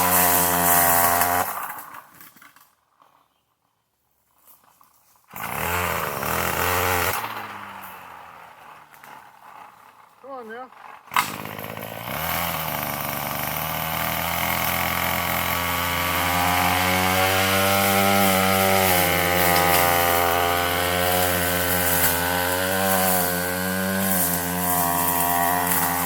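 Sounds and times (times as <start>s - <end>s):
weed eater engine running: 0.0s - 2.1s, 4.4s - 26.0s.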